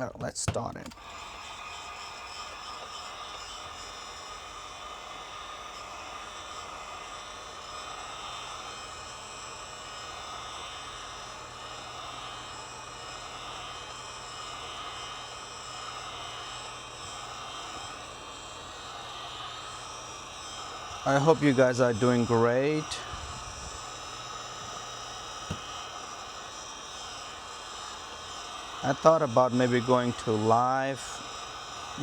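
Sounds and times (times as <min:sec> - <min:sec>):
heat gun whooshing: 0:00.9 - 0:32.0.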